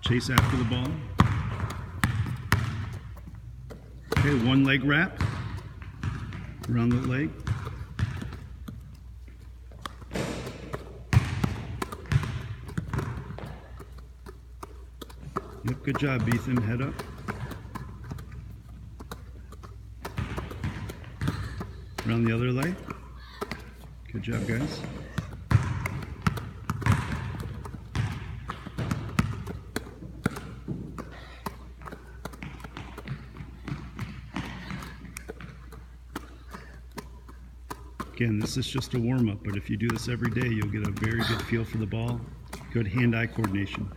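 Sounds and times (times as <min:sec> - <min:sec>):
basketball thuds: 0:00.0 - 0:43.9
hands slapping and swishing ball: 0:07.6 - 0:43.9.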